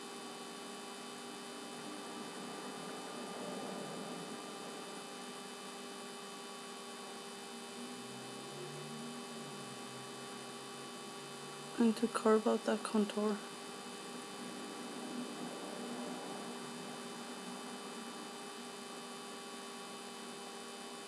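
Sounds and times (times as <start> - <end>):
electrical hum with hiss: 0.0 - 21.0.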